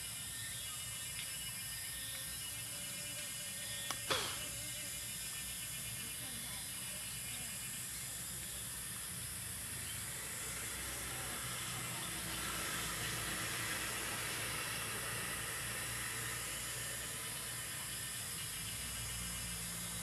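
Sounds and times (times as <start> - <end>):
steady hissing noise: 0.0 - 20.0.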